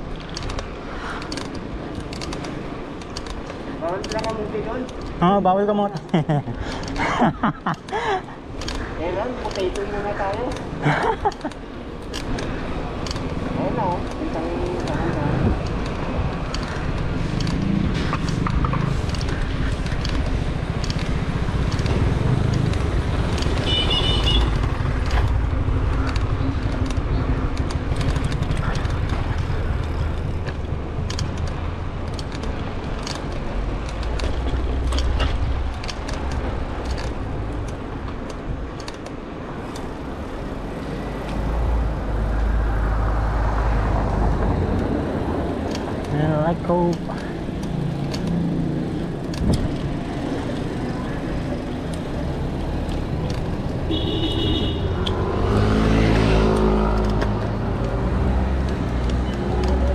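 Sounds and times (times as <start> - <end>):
scattered clicks: 0.0 - 59.9
traffic rumble: 0.0 - 59.9.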